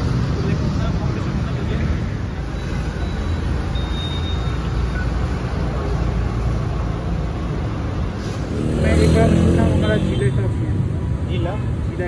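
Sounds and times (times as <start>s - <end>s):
vehicle engines rumbling past: 0.0s - 12.0s.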